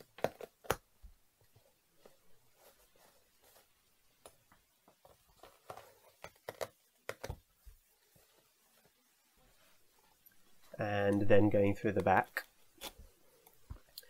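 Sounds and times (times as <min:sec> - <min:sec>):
hands handling a shoe: 0:00.0 - 0:14.0.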